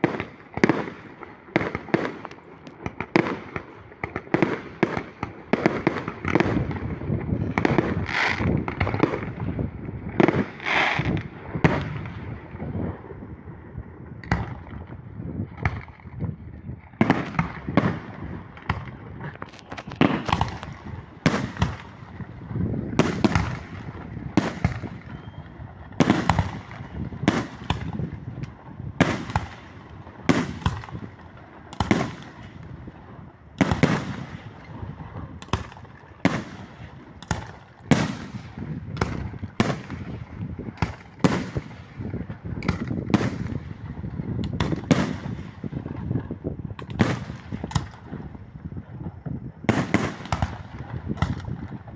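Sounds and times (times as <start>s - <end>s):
fireworks bursting in sharp bangs: 0.0s - 51.9s.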